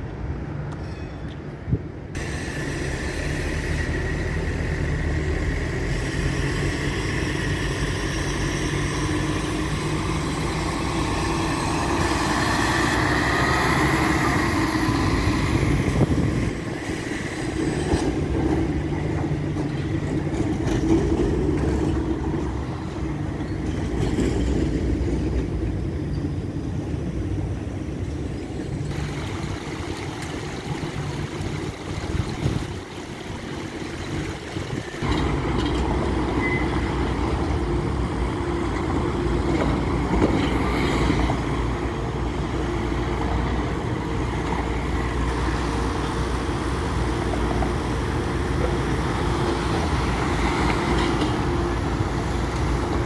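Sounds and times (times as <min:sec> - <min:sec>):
bus passing: 0:00.0 - 0:53.0
low rumble of engines: 0:00.0 - 0:53.0
tram whine: 0:00.0 - 0:53.0.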